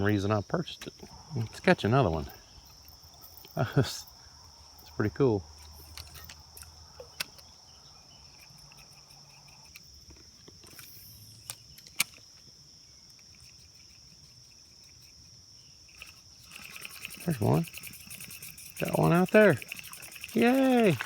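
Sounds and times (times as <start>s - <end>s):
insects chirping chorus: 0.0s - 21.0s.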